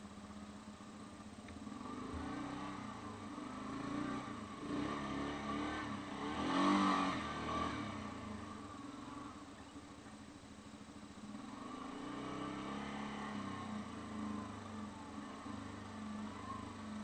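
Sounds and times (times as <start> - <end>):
atv engine revving: 1.5 - 9.8, 11.2 - 17.0.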